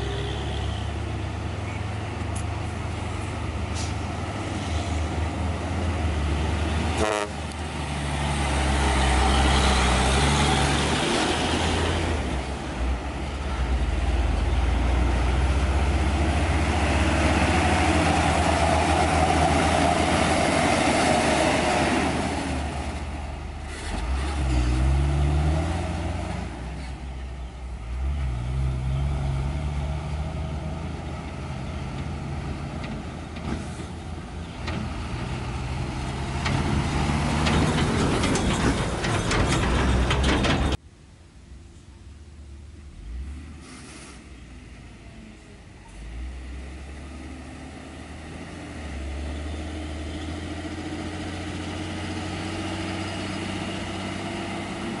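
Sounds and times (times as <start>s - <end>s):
diesel trucks driving past: 0.0s - 40.8s, 41.7s - 55.0s.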